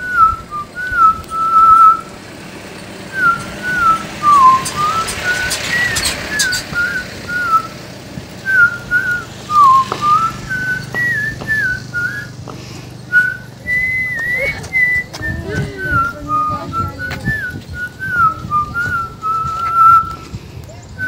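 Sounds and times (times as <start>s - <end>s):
whistled tune: 0.0s - 2.1s, 3.1s - 7.7s, 8.4s - 12.4s, 13.1s - 20.4s.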